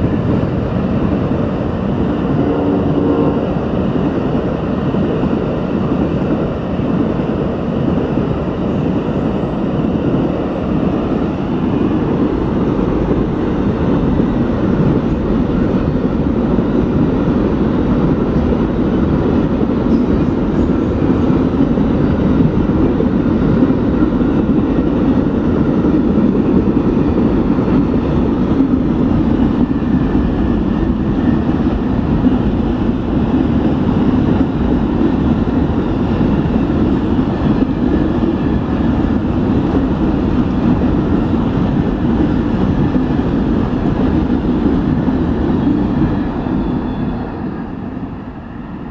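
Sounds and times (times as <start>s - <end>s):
train rumbling on rails: 0.0s - 48.9s.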